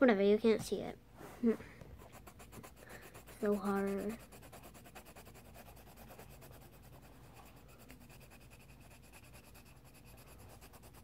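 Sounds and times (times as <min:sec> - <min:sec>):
low steady hum: 0:00.0 - 0:11.0
pencil scratching on paper: 0:02.0 - 0:11.0.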